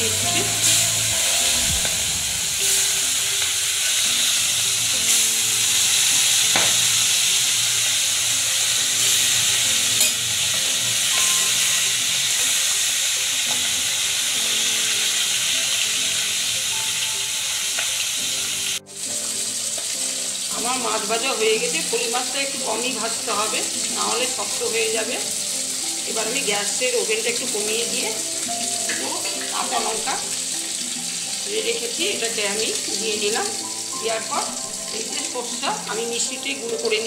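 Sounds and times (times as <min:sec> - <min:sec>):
fish frying in oil: 0:00.0 - 0:37.0.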